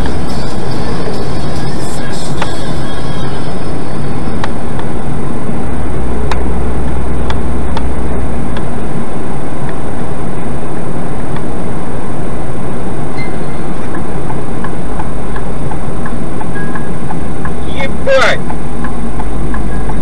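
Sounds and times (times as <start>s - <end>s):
high steady whine: 0.0s - 20.0s
road and engine rumble: 0.0s - 20.0s.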